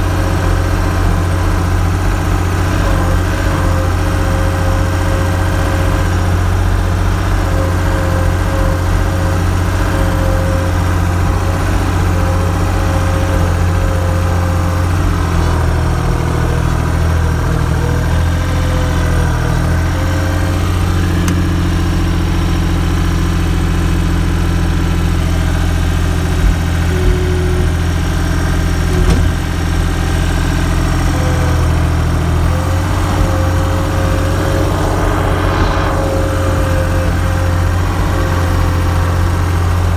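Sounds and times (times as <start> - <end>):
engine idling with whine: 0.0 - 39.9.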